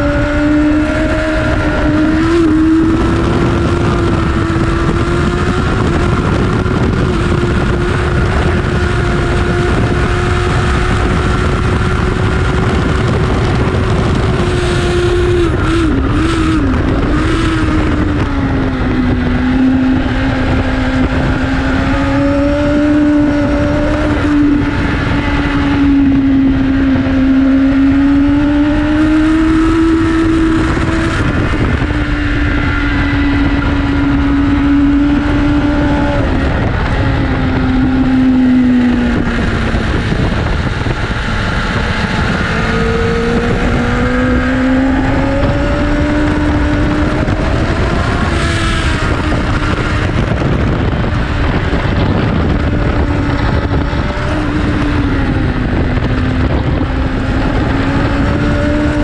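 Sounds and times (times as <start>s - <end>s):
motorcycle engine revving: 0.0s - 59.0s
wind rushing: 0.0s - 59.0s.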